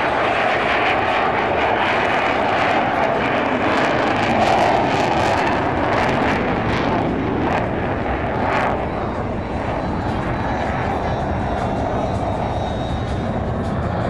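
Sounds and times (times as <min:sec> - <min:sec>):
jet engine rushing with crackle: 0:00.0 - 0:14.0.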